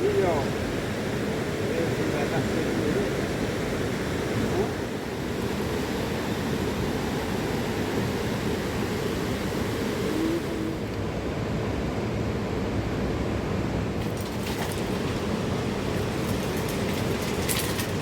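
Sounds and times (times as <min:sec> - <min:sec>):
mountain river rushing: 0:00.0 - 0:11.2, 0:14.0 - 0:18.0.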